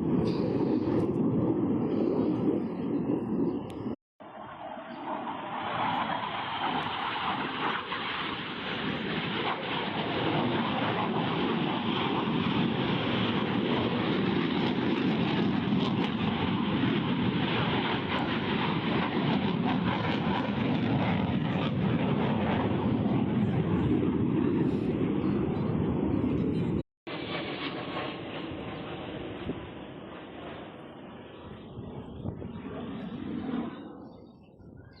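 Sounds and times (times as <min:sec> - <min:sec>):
aircraft engine noise: 0:00.0 - 0:35.0.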